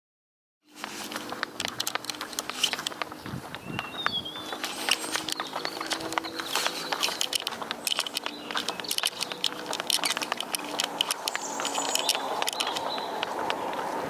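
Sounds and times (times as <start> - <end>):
footsteps on tarmac: 0.6 - 14.0.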